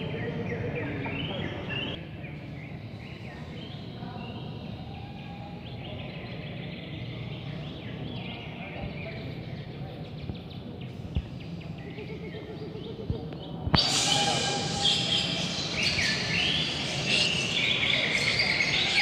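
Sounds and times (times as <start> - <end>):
low hum of a hall: 0.0 - 19.0
many songbirds singing: 0.0 - 19.0.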